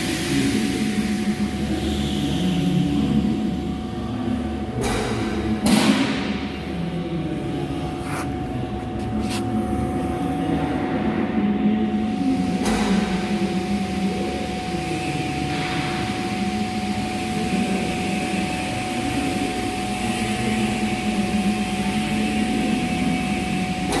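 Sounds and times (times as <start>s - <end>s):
machine with high-pitched hum: 0.0s - 24.0s.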